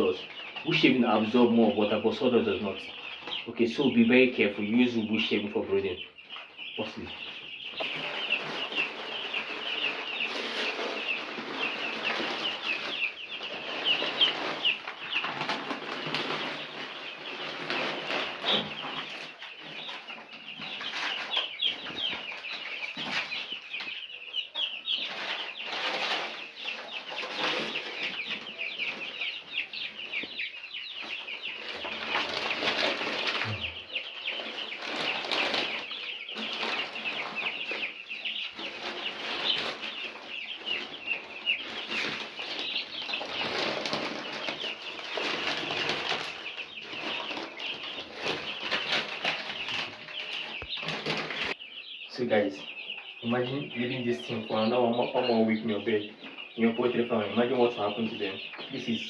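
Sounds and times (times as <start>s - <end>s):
chicks peeping: 0.0s - 59.0s
scratching in wood shavings: 0.0s - 59.0s.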